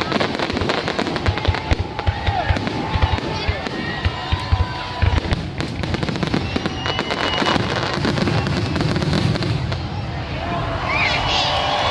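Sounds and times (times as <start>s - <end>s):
fireworks booming: 0.0s - 10.2s
fireworks crackling: 0.0s - 10.2s.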